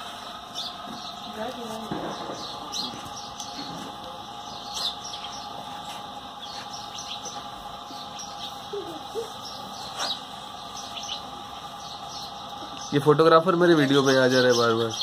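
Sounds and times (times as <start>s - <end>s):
birds chirping: 0.0s - 15.0s
steady background hum: 0.0s - 15.0s.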